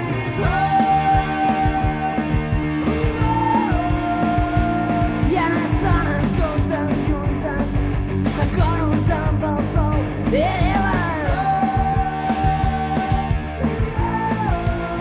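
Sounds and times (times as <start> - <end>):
rock band playing: 0.0 - 15.0
person singing: 0.3 - 15.0.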